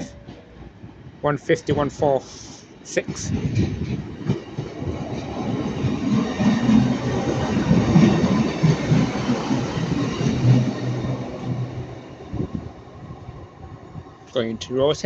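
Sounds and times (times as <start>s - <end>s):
diesel train rumbling past: 0.0s - 15.0s.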